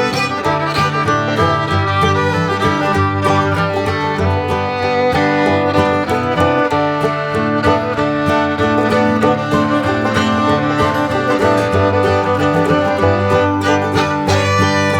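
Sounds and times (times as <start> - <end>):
country tune with fiddle and guitar: 0.0 - 14.9.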